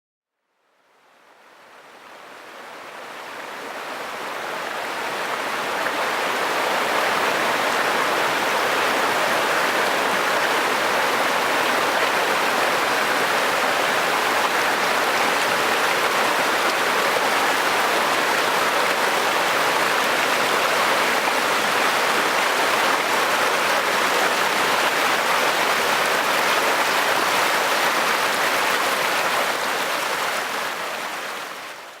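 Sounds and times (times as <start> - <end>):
river water rushing: 1.0 - 32.0.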